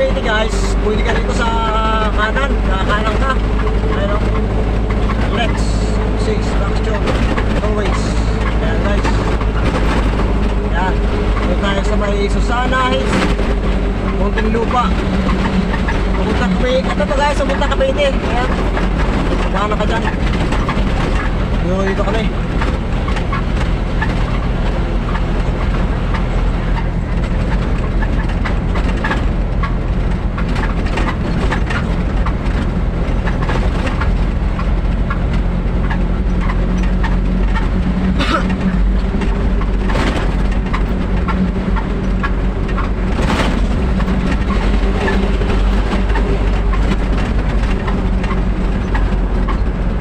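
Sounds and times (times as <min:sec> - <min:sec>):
road noise: 0:00.0 - 0:50.0
vehicle engine running: 0:00.0 - 0:50.0.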